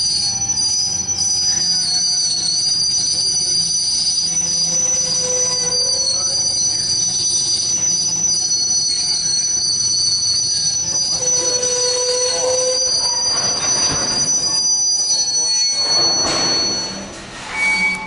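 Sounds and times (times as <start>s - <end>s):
steel wheels squealing: 0.0s - 18.0s.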